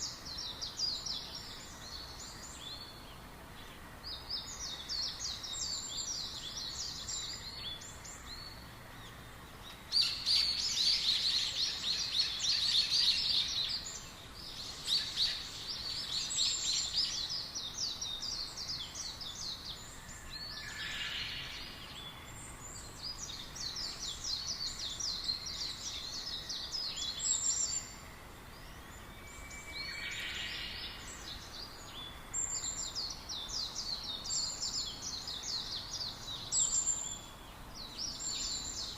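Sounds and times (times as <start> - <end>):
faint outdoor background noise: 0.0 - 38.9
flock of small birds chirping: 0.0 - 38.9.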